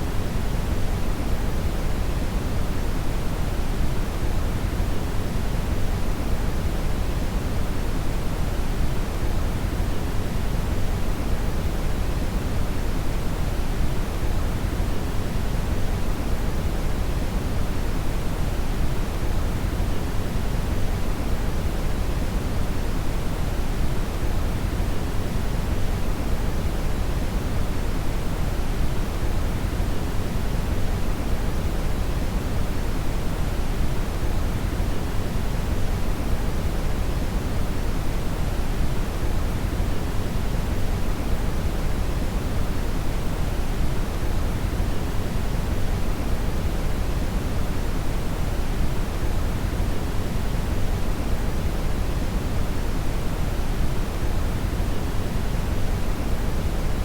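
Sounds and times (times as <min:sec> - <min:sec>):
low deep noise hiss: 0:00.0 - 0:57.0.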